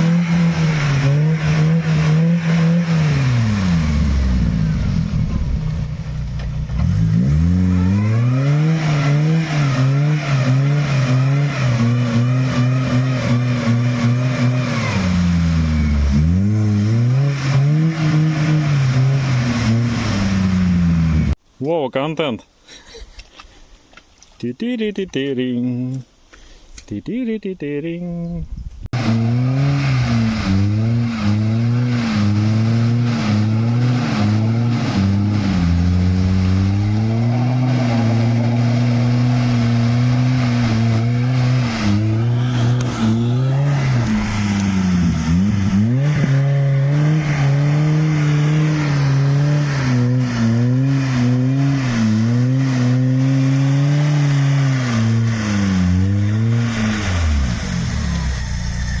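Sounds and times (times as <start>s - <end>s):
car engine revving hard: 0.0s - 21.4s, 28.9s - 59.0s.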